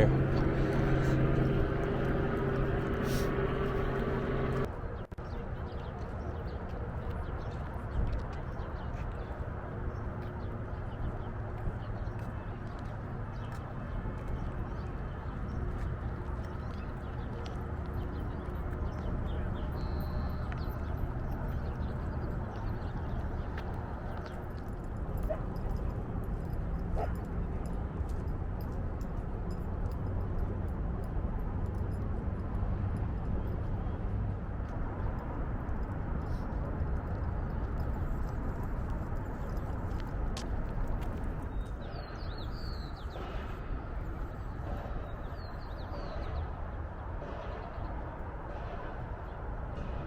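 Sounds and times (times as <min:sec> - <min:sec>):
low outdoor rumble: 0:00.0 - 0:50.0.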